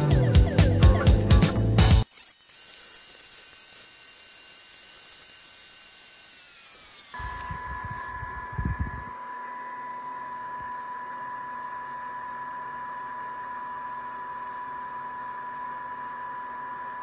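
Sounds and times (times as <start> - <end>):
wood lathe motor whine: 0.0 - 17.0.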